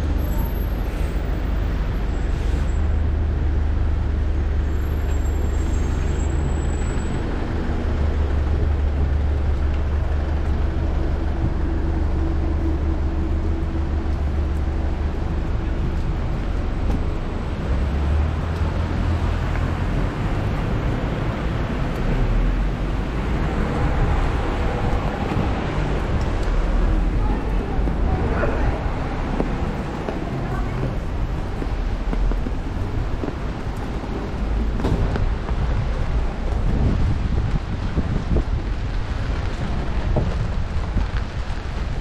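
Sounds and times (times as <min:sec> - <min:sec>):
city traffic rumble: 0:00.0 - 0:42.0
vehicle engines running: 0:00.0 - 0:42.0.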